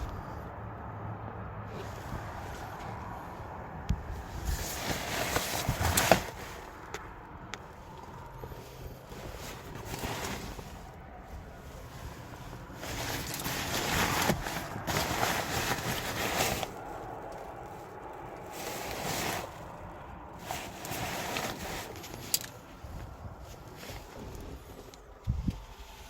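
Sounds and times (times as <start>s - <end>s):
rustling and scraping: 0.0s - 0.5s, 1.7s - 26.0s.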